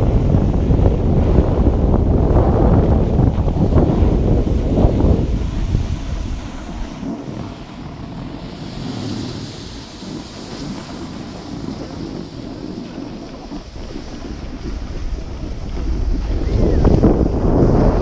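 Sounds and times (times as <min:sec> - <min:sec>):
snowboard scraping over snow: 0:00.0 - 0:18.0
wind buffeting microphone: 0:00.0 - 0:18.0.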